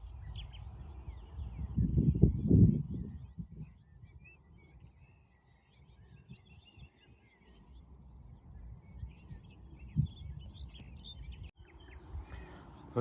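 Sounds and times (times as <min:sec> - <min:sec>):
faint songbirds singing: 0:00.0 - 0:13.0.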